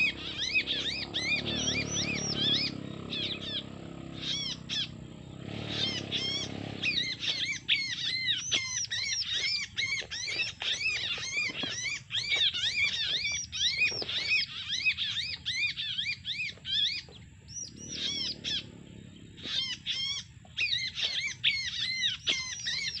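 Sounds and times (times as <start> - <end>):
bird sharp rapid chirps: 0.0 - 23.0.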